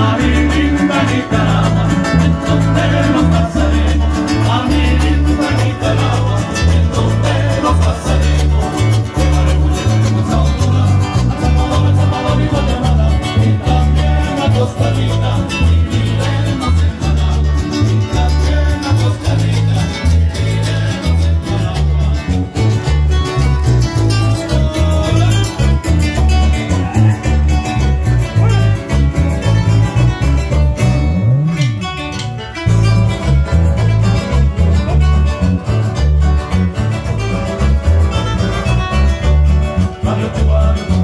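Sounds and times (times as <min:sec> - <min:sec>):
folk band playing: 0:00.0 - 0:41.0
pulsing bass line: 0:00.0 - 0:41.0.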